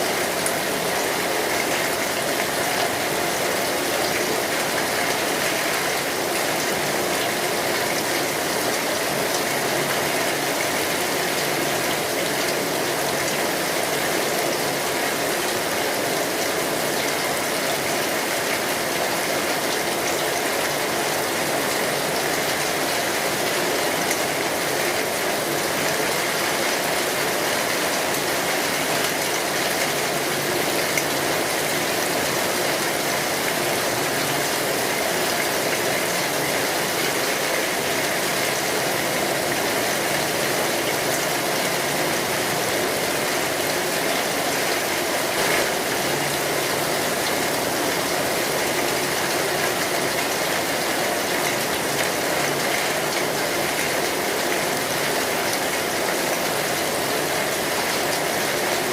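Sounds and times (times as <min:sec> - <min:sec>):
rain drumming on a metal roof: 0:00.0 - 0:58.9.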